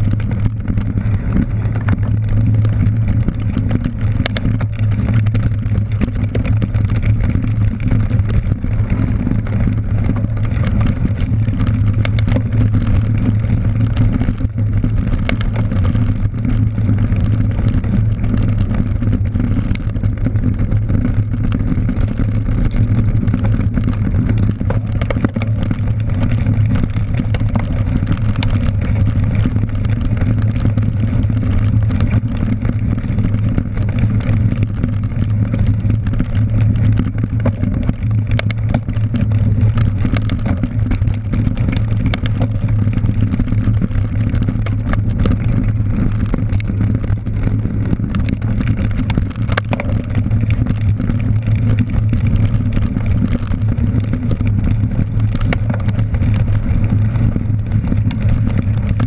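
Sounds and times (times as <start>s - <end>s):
bike clicks and rattles: 0.0s - 59.0s
bike tyre and frame rumble: 0.0s - 59.0s
wind: 0.0s - 59.0s.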